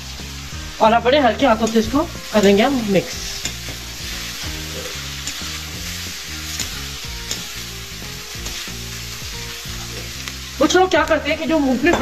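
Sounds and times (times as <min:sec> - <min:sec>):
food sizzling in a pan: 0:00.0 - 0:12.0
soft background music: 0:00.0 - 0:12.0.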